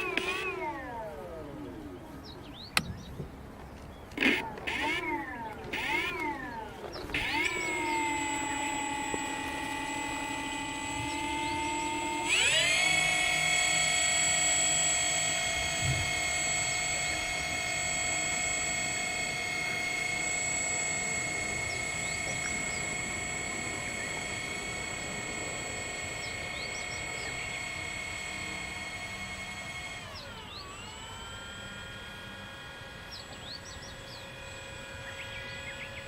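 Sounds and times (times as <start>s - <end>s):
model plane electric motors whining: 0.0s - 36.0s.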